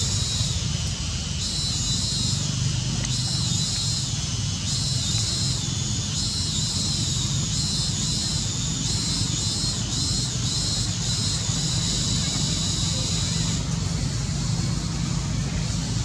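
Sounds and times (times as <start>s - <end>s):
high buzzing in waves: 0.0s - 16.0s.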